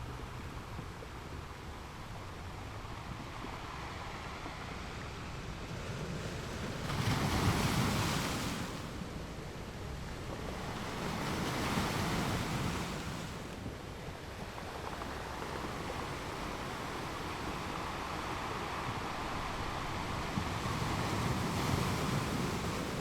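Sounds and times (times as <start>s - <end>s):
ocean waves breaking on shore: 2.5s - 23.0s.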